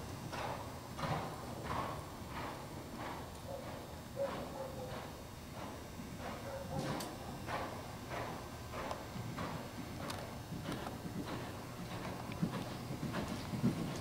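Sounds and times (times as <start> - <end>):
horse hoofbeats on dirt: 0.0 - 14.0.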